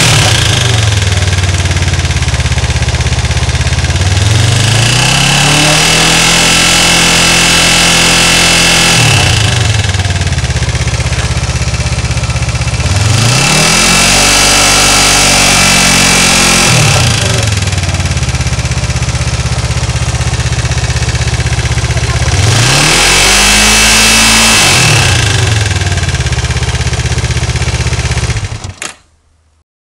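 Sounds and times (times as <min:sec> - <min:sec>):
motorcycle engine idling and revving: 0:00.0 - 0:28.8.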